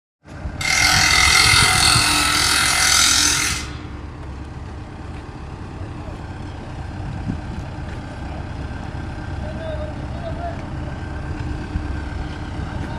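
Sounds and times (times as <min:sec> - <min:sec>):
engine running: 0:00.2 - 0:12.9.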